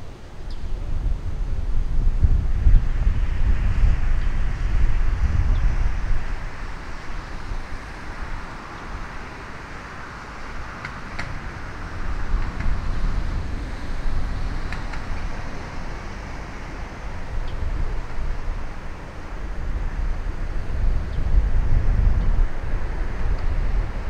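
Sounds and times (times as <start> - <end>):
wind rumbling on microphone: 0.0 - 24.0
distant jet roar: 2.4 - 24.0.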